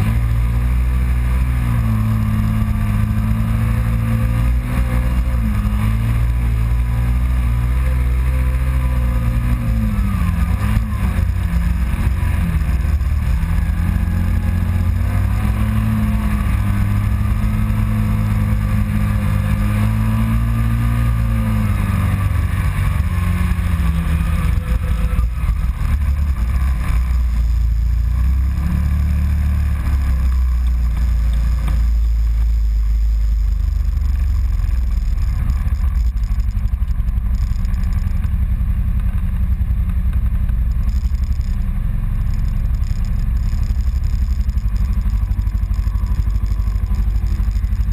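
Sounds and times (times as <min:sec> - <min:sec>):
engine running under load: 0:00.0 - 0:47.9.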